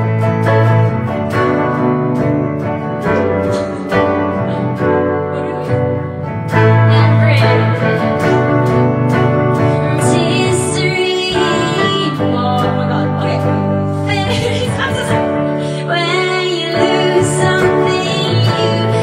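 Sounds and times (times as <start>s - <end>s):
guitar strumming: 0.0s - 19.0s
woman singing into a microphone: 3.2s - 19.0s.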